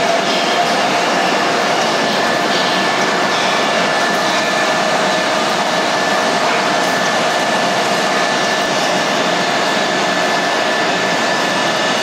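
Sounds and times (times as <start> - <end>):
high engine whine: 0.0 - 12.0.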